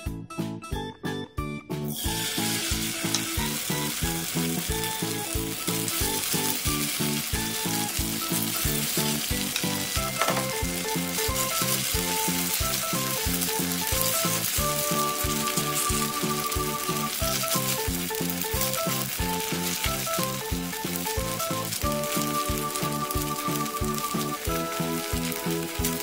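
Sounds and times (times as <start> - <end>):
background music with steady beat: 0.0 - 26.0
batter sizzling in hot oil: 1.9 - 26.0.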